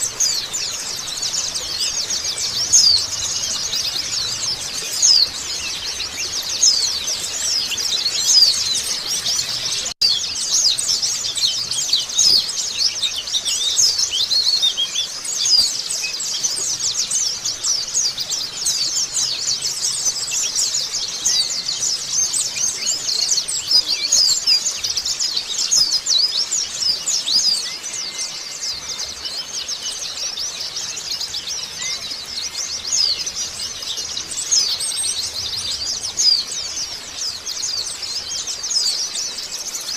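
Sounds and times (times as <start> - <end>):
chorus of birds chirping: 0.0 - 39.9.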